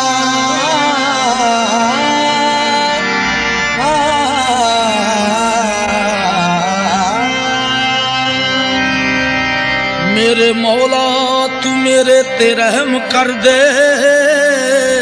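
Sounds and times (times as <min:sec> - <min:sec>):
devotional song with drone: 0:00.0 - 0:15.0.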